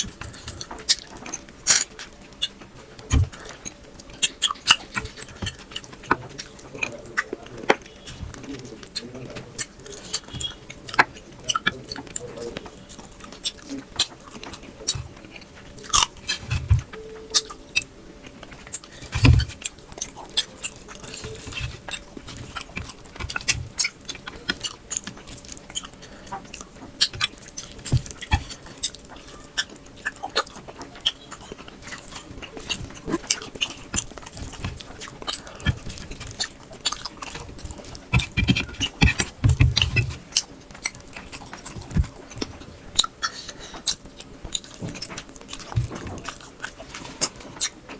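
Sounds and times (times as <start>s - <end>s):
person chewing and lip-smacking: 0.0s - 47.9s.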